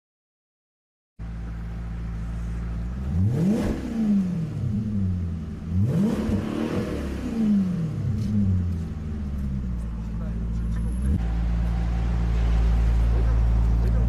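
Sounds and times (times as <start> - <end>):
car engine revving: 1.2 - 14.0.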